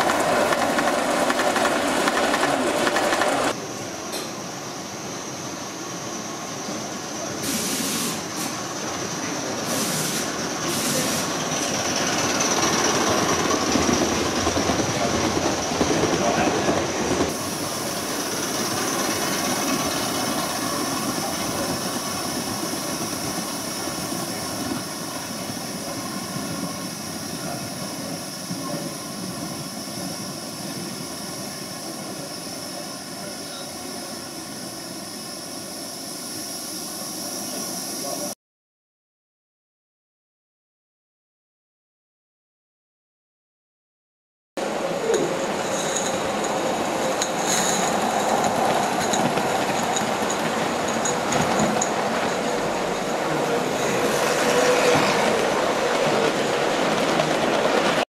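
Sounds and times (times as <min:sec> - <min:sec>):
model train running on track: 0:00.0 - 0:05.3, 0:06.0 - 0:38.3, 0:44.6 - 0:58.0.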